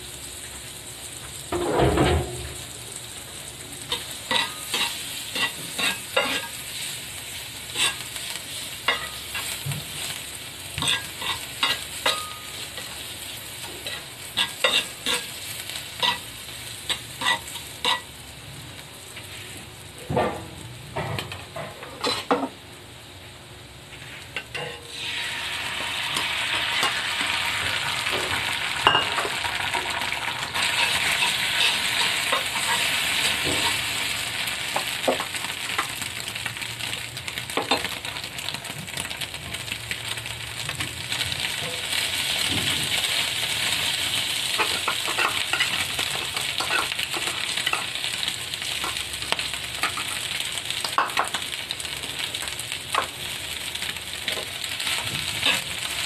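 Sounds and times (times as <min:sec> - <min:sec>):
egg sizzling in hot oil: 0:00.0 - 0:19.6, 0:23.9 - 0:56.0
garlic sizzling in oil: 0:00.0 - 0:20.6, 0:21.2 - 0:56.0.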